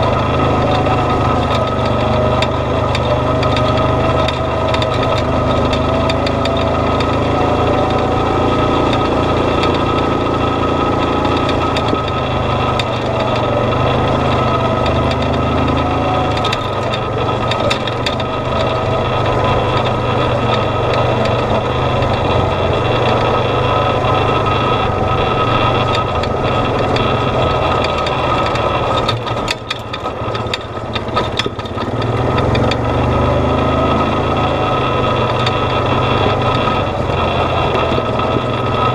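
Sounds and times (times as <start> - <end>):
clicks and rattles: 0.0 - 38.9
vehicle engine running: 0.0 - 38.9.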